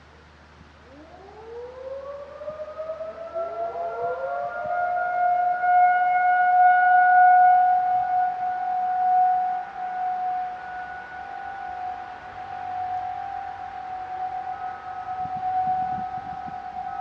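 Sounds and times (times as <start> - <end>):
tornado warning siren winding up: 0.9 - 17.0.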